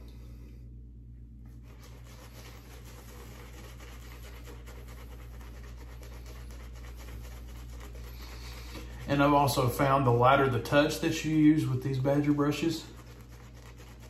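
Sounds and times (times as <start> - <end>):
low steady hum: 0.0 - 14.0
shaving brush scrubbing lather: 1.5 - 14.0.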